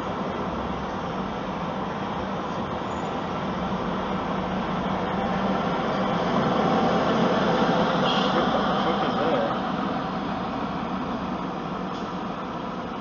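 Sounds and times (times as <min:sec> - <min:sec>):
road and engine noise in cabin: 0:00.0 - 0:13.0.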